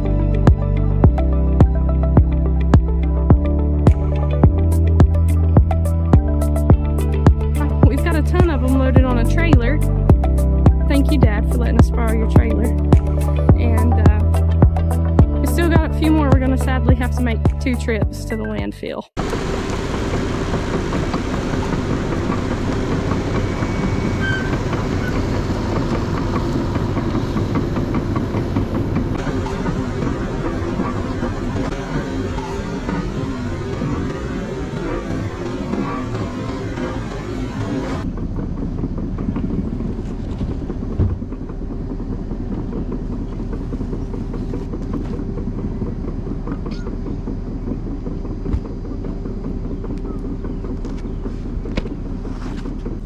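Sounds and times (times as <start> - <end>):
truck engine and road rumble: 0.0 - 53.0.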